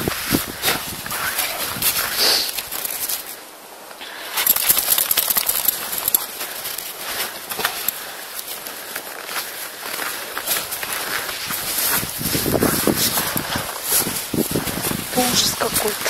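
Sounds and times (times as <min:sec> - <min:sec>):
footsteps crunching in snow: 0:00.0 - 0:03.4, 0:04.4 - 0:16.0.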